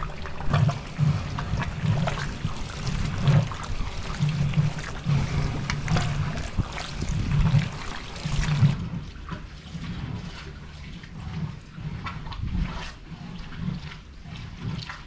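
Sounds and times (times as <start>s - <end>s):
fat bubbling and crackling: 0.0s - 15.0s
rhythmic stirring swish: 0.0s - 15.0s.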